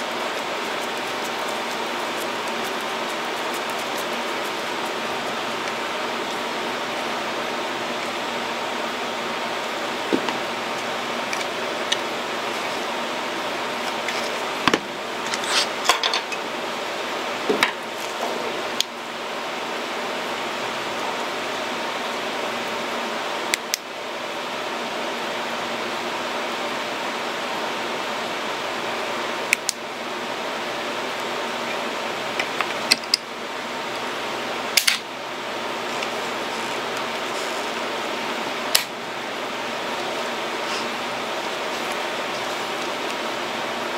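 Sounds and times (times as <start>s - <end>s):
steady hiss: 0.0s - 15.8s, 16.5s - 43.9s.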